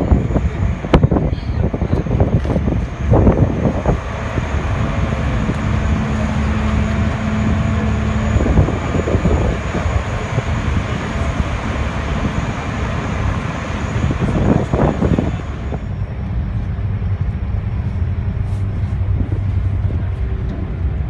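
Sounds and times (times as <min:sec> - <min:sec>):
broad rushing noise: 0:00.0 - 0:21.0
ferry engine rumble: 0:00.0 - 0:21.0.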